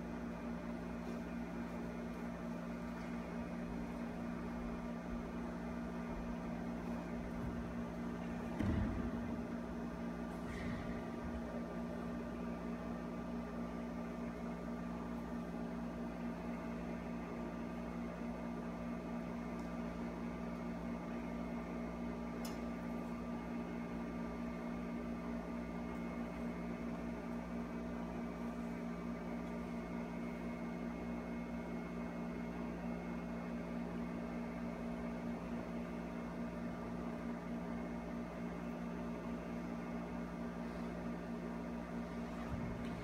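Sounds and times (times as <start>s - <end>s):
electrical hum: 0.0s - 43.0s.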